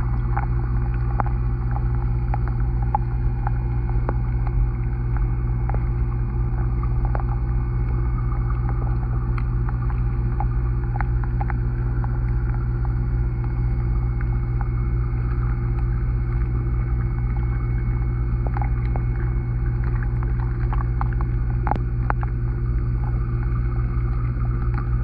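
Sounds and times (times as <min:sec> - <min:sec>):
low underwater hum: 0:00.0 - 0:25.0
small underwater clicks: 0:00.0 - 0:25.0.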